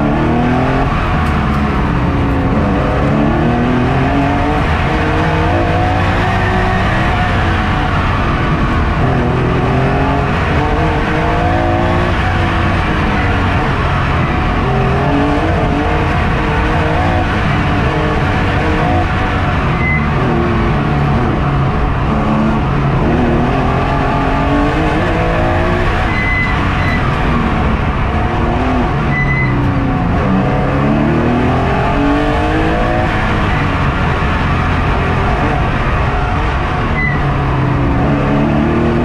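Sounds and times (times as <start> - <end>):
tire squeals: 0.0 - 29.9, 31.1 - 37.8
race car engine revving: 0.0 - 39.0.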